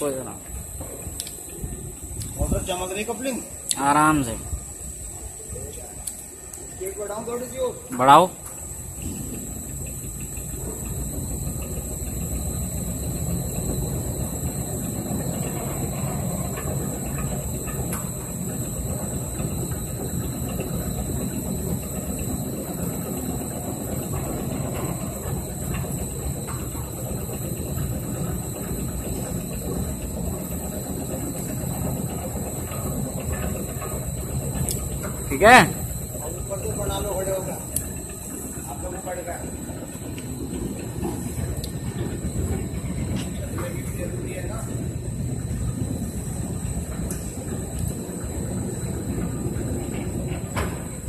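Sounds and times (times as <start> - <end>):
gear drive mechanical rumble: 0.0 - 51.0
high whine: 0.0 - 51.0.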